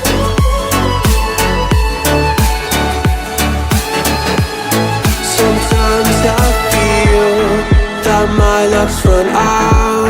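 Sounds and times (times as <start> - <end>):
deep bass hits: 0.0 - 10.0
held melody line: 0.0 - 10.0.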